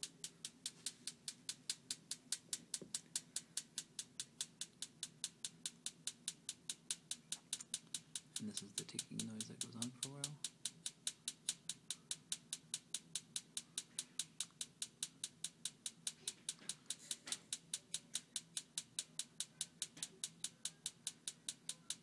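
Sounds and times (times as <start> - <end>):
furnace ticking: 0.0 - 22.0.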